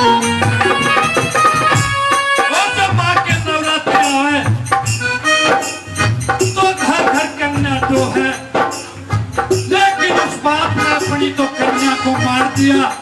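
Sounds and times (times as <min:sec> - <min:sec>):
bending melody line: 0:00.0 - 0:13.0
steady drum beat: 0:00.0 - 0:13.0.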